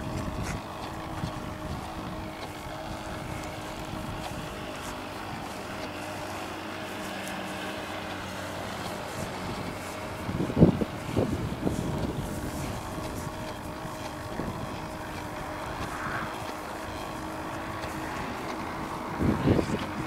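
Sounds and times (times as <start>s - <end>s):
model boat motor humming: 0.0s - 20.0s.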